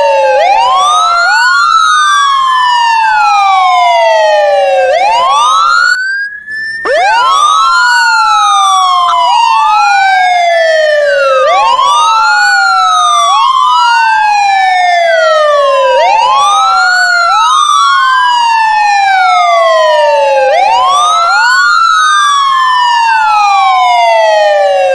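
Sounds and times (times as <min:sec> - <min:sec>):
ambulance siren wailing: 0:00.0 - 0:24.9.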